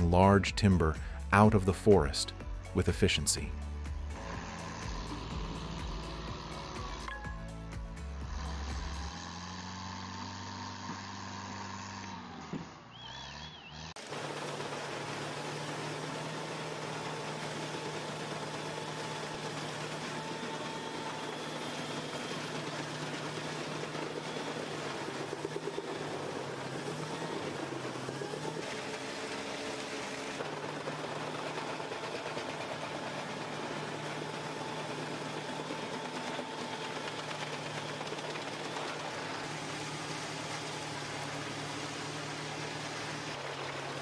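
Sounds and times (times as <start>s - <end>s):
heavy machine engine running: 0.0s - 44.0s.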